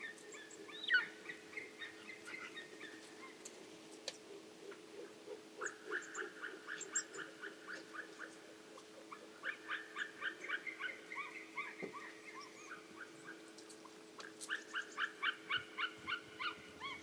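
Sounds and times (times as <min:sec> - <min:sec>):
large bird yelping calls: 0:00.0 - 0:03.5, 0:04.3 - 0:17.0.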